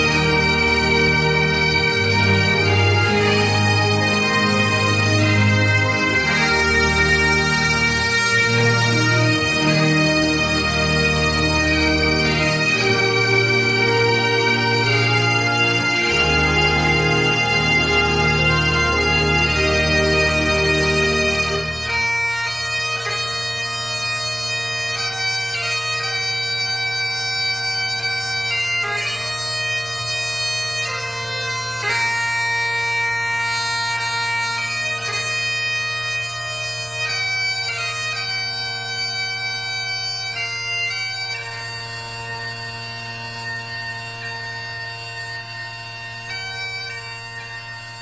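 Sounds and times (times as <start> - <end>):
bagpipes playing slow melody: 0.0 - 48.0
music: 0.0 - 48.0.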